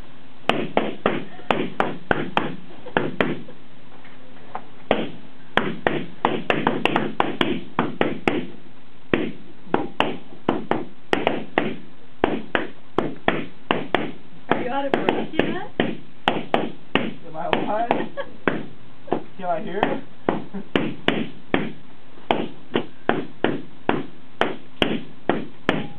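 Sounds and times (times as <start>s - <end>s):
balloons popping: 0.4s - 3.5s, 4.9s - 25.9s.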